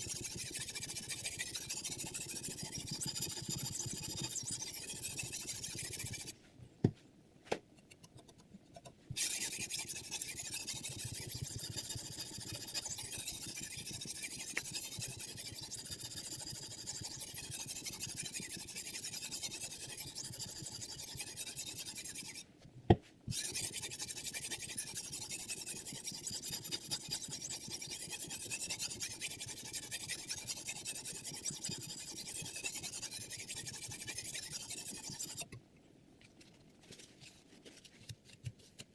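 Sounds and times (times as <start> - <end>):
stone rasping on knife edge: 0.0 - 6.3, 7.8 - 22.4, 23.3 - 35.6.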